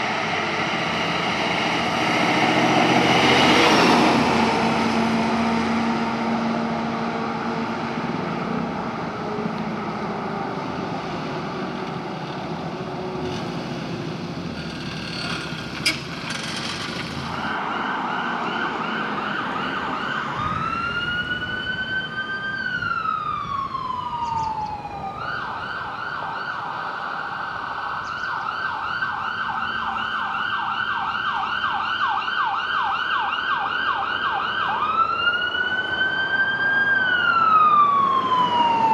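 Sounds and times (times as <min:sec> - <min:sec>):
emergency siren yelping and wailing: 0:00.0 - 0:13.1, 0:17.3 - 0:38.9
traffic rumble: 0:00.0 - 0:38.9.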